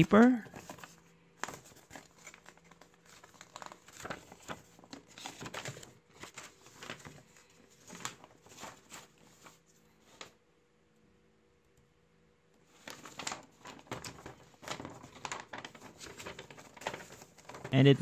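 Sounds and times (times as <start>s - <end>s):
paper rustling and crinkling: 0.0s - 10.4s, 12.6s - 18.0s.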